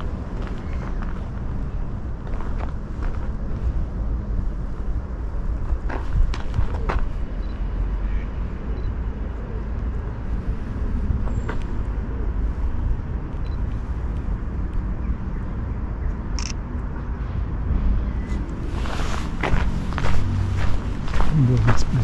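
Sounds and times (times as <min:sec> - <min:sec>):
steady low rumble: 0:00.0 - 0:08.0, 0:08.8 - 0:22.0.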